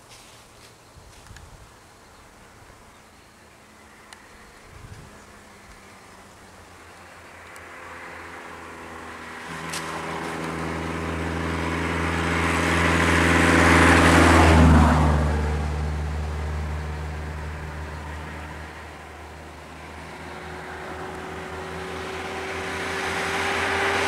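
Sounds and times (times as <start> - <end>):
tyre and road noise: 0.0 - 24.0
vehicle engine hum: 0.0 - 24.0.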